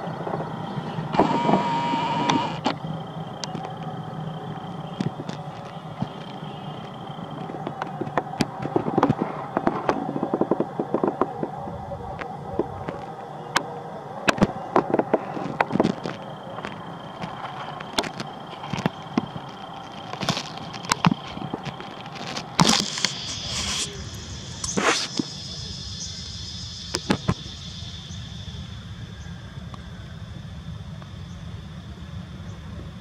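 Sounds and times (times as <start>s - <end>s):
high insect drone: 0.0s - 33.0s
sharp clicks and crackles: 0.2s - 4.0s, 4.7s - 27.6s
steady low rumble: 2.0s - 33.0s.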